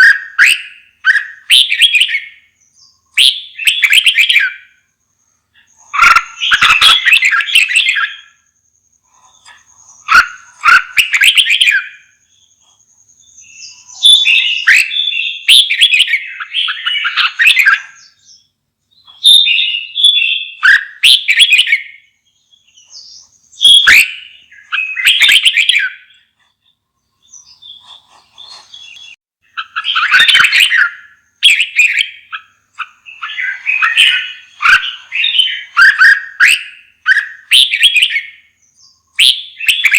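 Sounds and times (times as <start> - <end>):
bird singing warbled phrases: 0.0 - 39.9.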